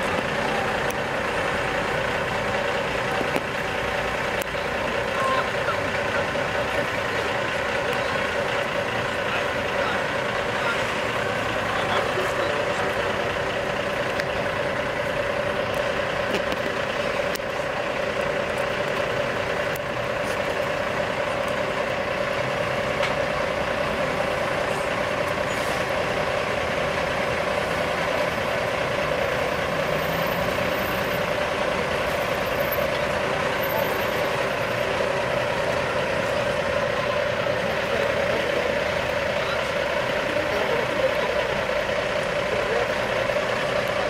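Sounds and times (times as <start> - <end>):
truck diesel engine idling: 0.0 - 44.0.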